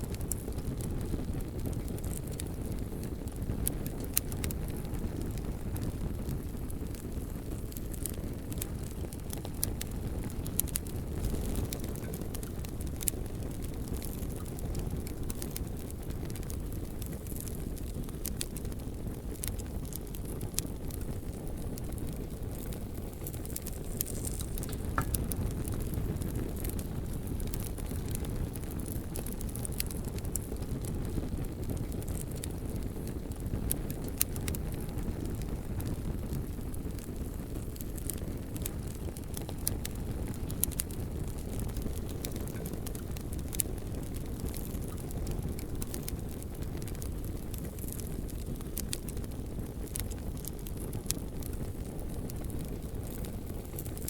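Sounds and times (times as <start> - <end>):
flames rumbling: 0.0 - 54.0
wood crackling and popping: 0.0 - 54.0.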